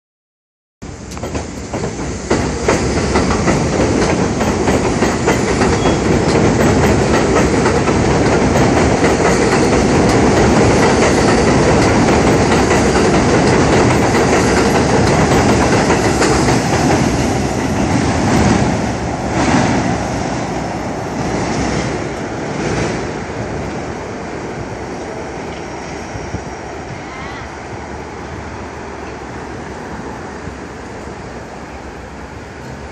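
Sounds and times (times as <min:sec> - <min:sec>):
subway train rumble: 0:00.8 - 0:32.9.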